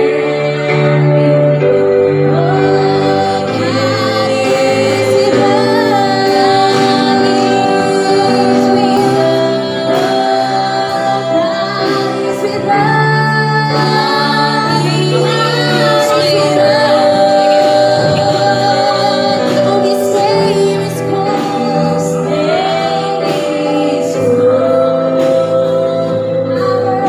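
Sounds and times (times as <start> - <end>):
voices singing along: 0.0 - 27.0
woman singing: 0.0 - 27.0.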